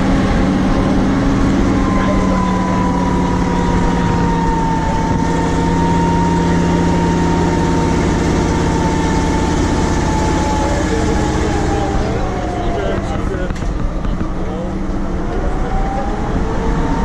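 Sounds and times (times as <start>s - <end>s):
truck engine running with whine: 0.0s - 17.0s.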